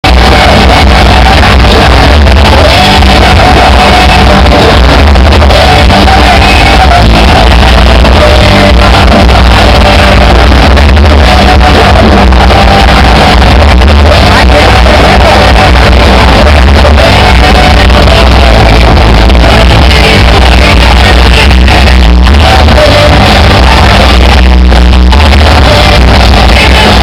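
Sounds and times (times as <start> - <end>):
live rock band with vocals: 0.0 - 27.0.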